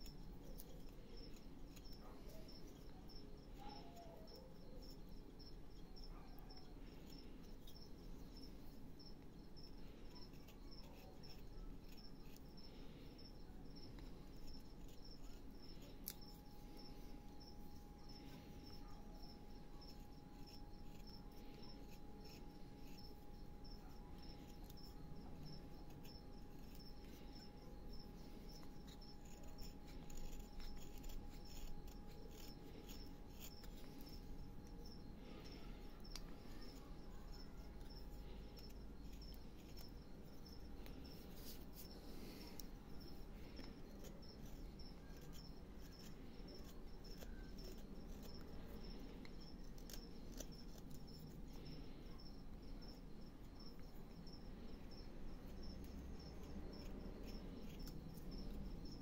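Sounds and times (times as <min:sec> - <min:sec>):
cricket chirping: 0:00.0 - 0:59.0
knife carving wood: 0:00.0 - 0:59.0.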